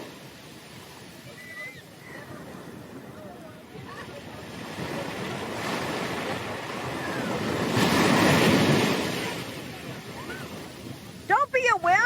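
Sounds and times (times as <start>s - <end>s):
ocean wave breaking: 0.0s - 12.0s.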